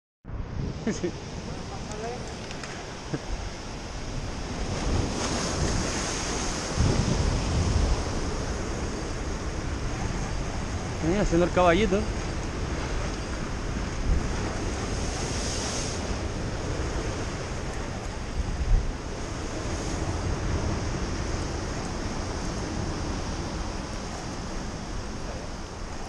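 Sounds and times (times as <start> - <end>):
wind rumbling on microphone: 0.3 - 26.0
surf breaking over rocks: 1.1 - 25.9.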